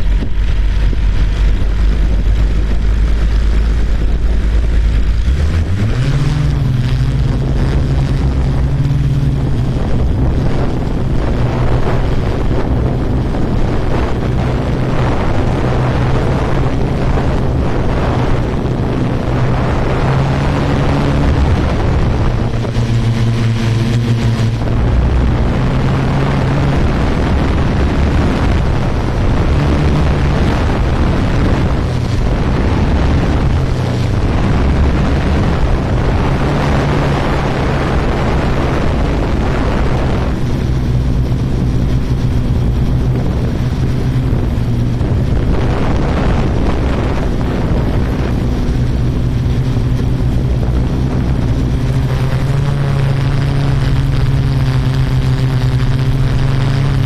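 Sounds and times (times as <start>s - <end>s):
drone motors humming: 0.0s - 57.0s
wind on microphone: 0.0s - 57.0s.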